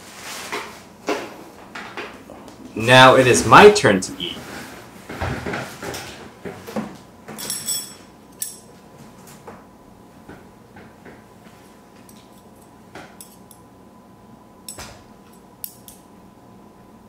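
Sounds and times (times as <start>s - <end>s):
faint steady hum: 0.2s - 5.3s, 6.9s - 17.0s.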